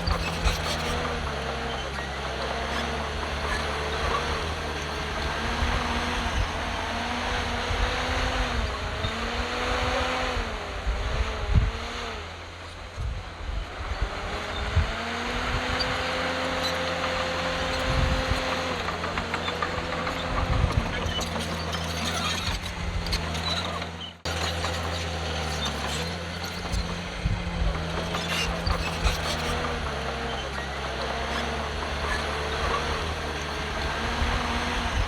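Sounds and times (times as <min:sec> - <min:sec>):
bulldozer diesel engine revving: 0:00.0 - 0:35.0.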